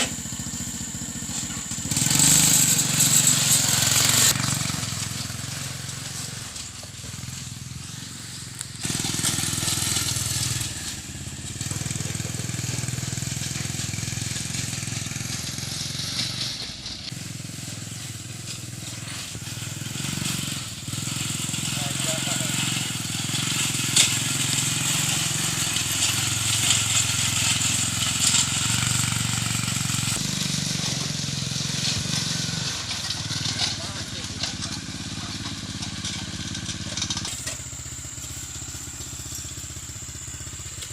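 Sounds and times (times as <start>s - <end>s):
small motor engine revving: 0.0s - 40.9s.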